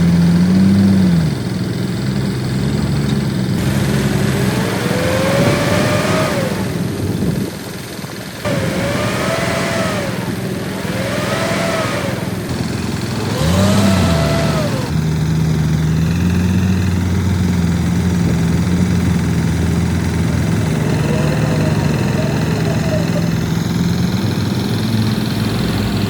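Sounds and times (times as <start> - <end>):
low engine drone: 0.0 - 26.0
motor whine rising and falling: 2.5 - 7.0, 8.4 - 17.5, 18.2 - 26.0.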